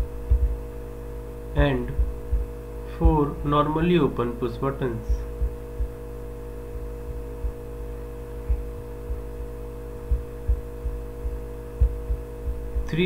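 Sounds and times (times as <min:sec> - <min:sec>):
soft low thumps: 0:00.0 - 0:00.8, 0:01.6 - 0:04.0, 0:05.0 - 0:13.0
electrical hum: 0:00.0 - 0:13.0.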